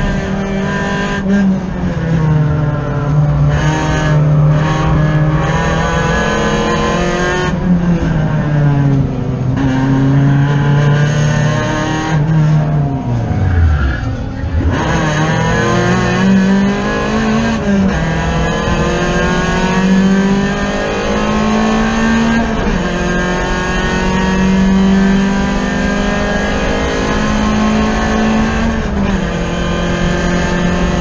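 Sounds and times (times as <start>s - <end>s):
race car engine at full throttle: 0.0s - 31.0s.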